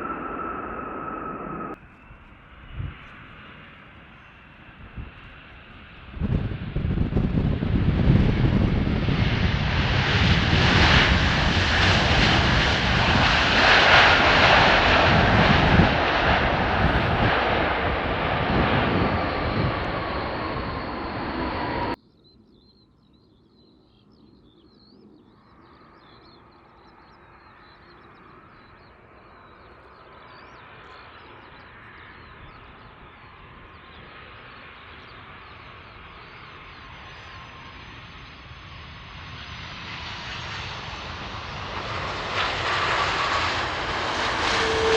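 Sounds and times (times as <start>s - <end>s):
faint distant jet: 0.0s - 44.9s
jet airliner passing overhead: 0.0s - 44.9s.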